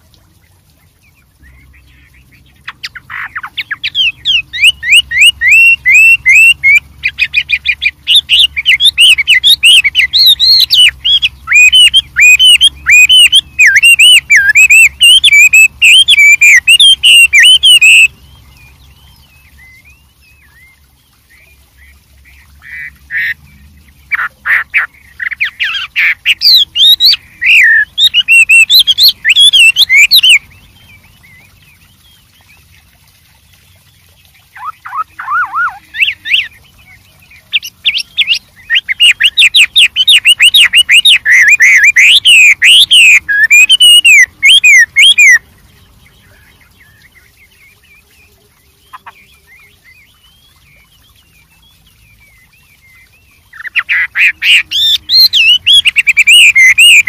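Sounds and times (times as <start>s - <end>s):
bird singing fast varied notes: 1.0s - 57.0s.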